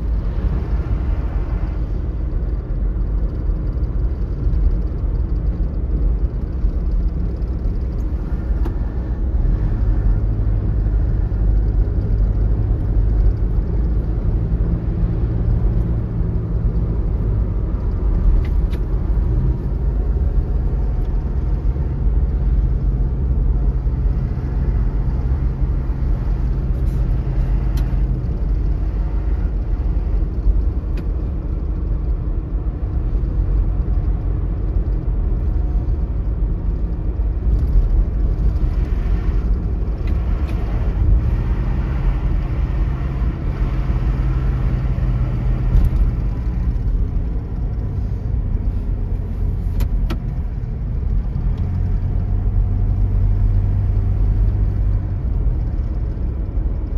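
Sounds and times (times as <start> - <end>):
car engine and tyres rumbling: 0.0 - 56.9.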